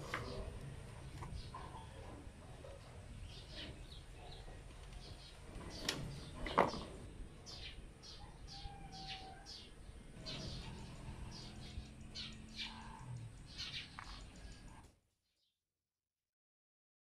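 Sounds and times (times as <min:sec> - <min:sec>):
small birds chirping: 0:00.0 - 0:15.5.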